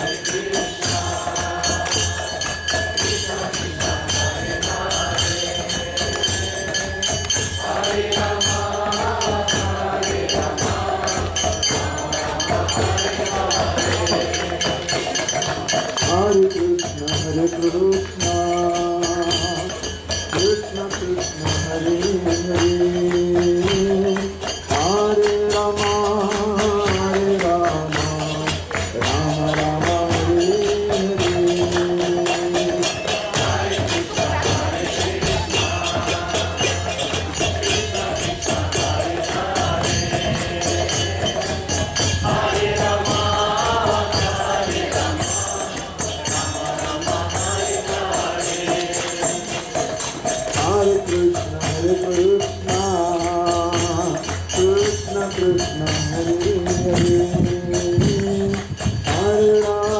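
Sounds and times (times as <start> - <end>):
jingling percussion beat: 0.0 - 59.9
voices singing gliding melody: 0.0 - 59.9.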